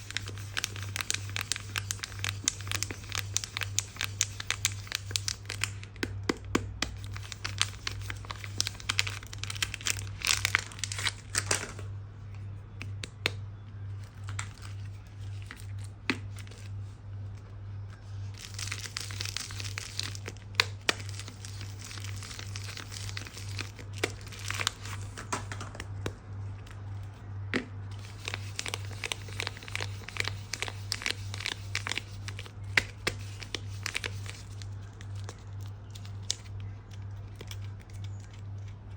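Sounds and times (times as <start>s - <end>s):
wrappers crinkling and tearing: 0.0s - 5.9s, 6.9s - 11.9s, 14.0s - 16.8s, 18.0s - 25.6s, 27.9s - 38.9s
steady low hum: 0.0s - 38.9s.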